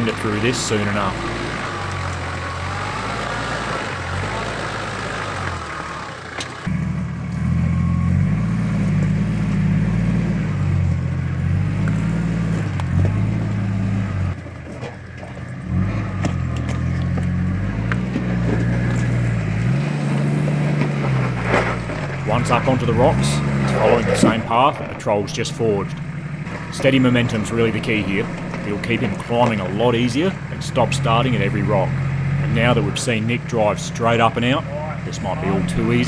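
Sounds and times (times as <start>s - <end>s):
vehicle engine working hard: 0.0s - 36.0s.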